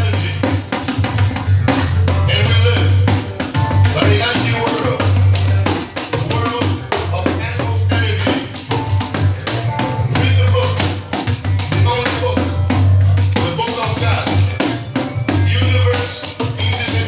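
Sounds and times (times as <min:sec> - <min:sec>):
pandeiro jingling rhythm: 0:00.0 - 0:17.0
recorded song with bass line: 0:00.0 - 0:17.0.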